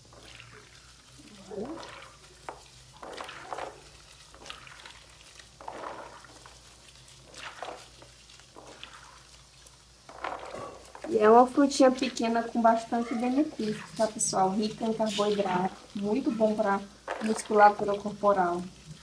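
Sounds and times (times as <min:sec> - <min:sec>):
berries squished by hand in water: 0:00.0 - 0:19.0.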